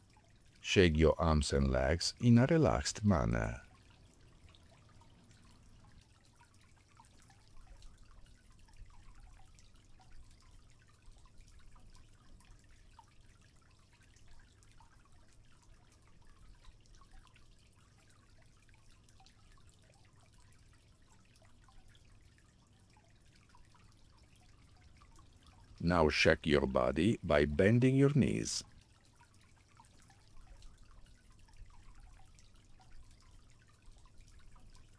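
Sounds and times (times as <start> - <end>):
small irregular drips: 0.0 - 0.7, 3.4 - 25.8, 28.7 - 34.9
water trickling: 3.5 - 25.8, 29.0 - 34.9.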